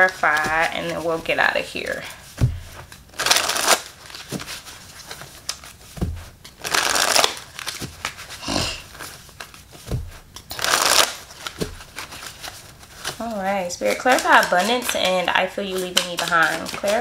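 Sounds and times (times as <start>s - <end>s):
cards riffle shuffling: 0.0s - 17.0s.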